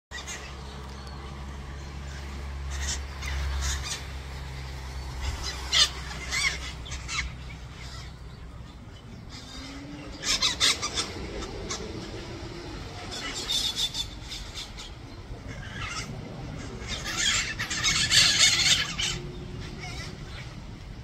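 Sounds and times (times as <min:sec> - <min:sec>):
low steady rumble: 0:00.1 - 0:21.0
parrots calling: 0:00.1 - 0:21.0.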